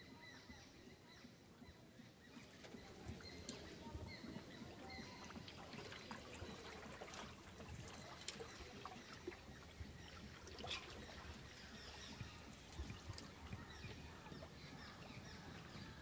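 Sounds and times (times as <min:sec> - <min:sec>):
water trickling and lapping: 0:01.3 - 0:16.0
faint drips and ticks: 0:02.4 - 0:15.9.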